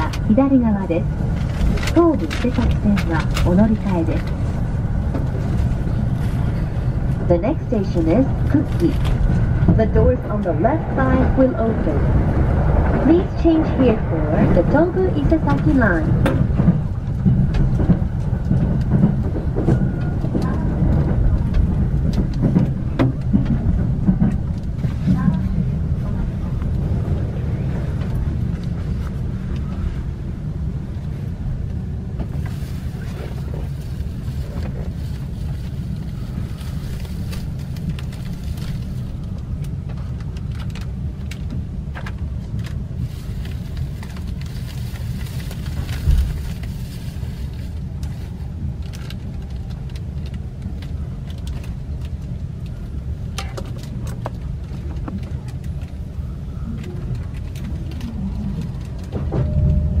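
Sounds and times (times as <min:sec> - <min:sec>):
train running gear rumble: 0:00.0 - 1:00.0.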